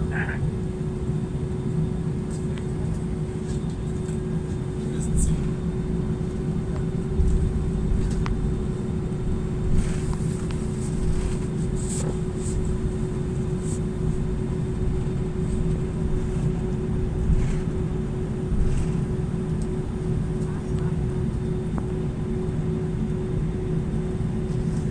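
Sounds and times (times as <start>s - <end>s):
cabin low rumble: 0.0s - 24.9s
constant hum: 0.0s - 24.9s.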